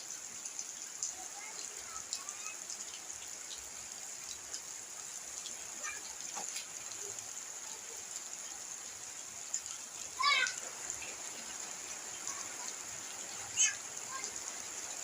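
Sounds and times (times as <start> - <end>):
steady rain falling: 0.0 - 15.0
water drips: 0.0 - 15.0.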